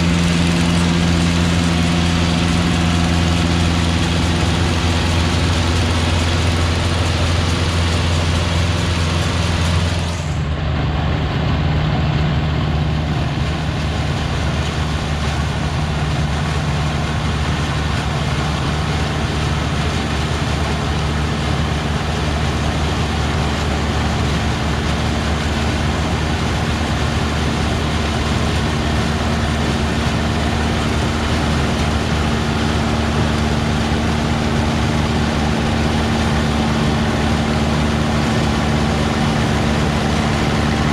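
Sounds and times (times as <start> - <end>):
engine drone: 0.0 - 40.9.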